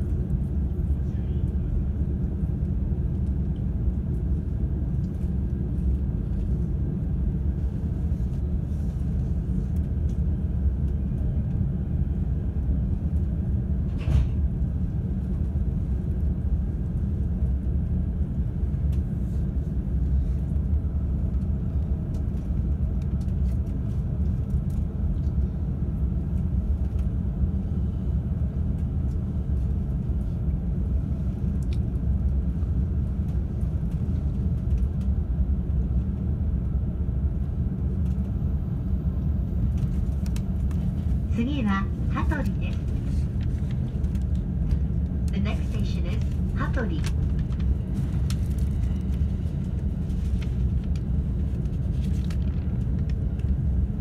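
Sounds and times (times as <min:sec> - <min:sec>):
electric train low rumble: 0:00.0 - 0:54.0.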